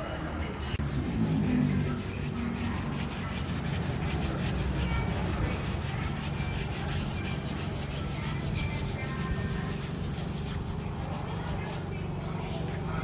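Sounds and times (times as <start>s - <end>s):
steady low hum: 0.7s - 13.0s
sandpaper rubbing by hand: 0.8s - 12.0s.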